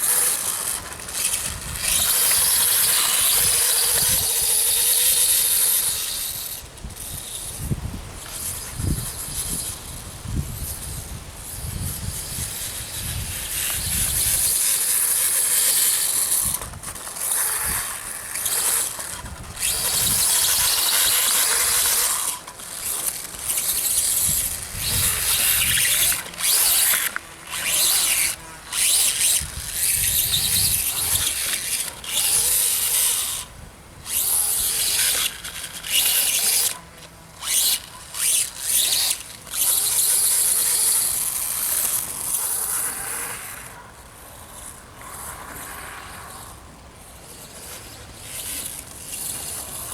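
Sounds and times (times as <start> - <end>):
electric motor whining: 0.0 - 49.9.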